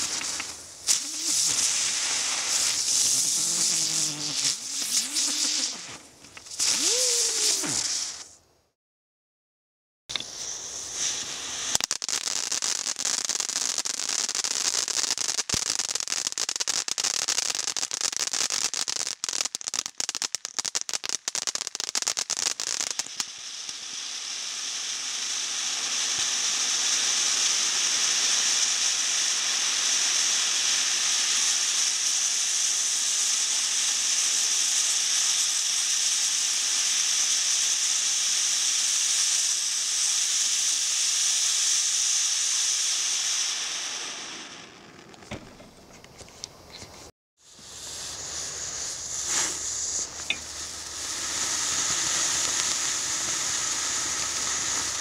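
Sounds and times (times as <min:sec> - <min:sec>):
firework crackling and popping: 0:00.0 - 0:08.4, 0:10.1 - 0:55.0
firework fountain hissing: 0:00.0 - 0:08.4, 0:10.1 - 0:55.0.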